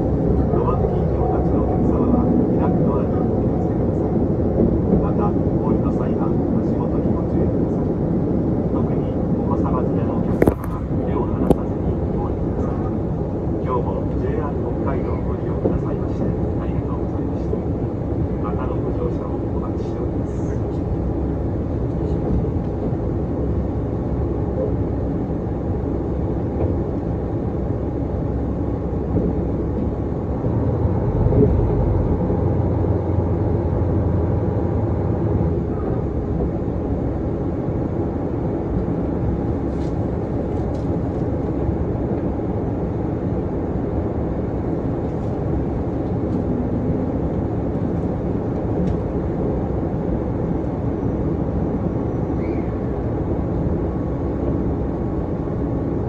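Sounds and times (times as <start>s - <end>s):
train engine and wheels rumbling: 0.0s - 56.0s.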